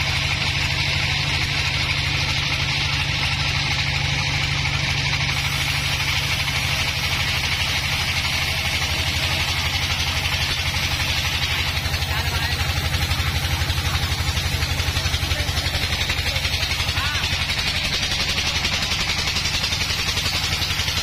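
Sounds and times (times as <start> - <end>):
engine low throb: 0.0 - 21.0
band saw blade hissing through wood: 0.1 - 21.0.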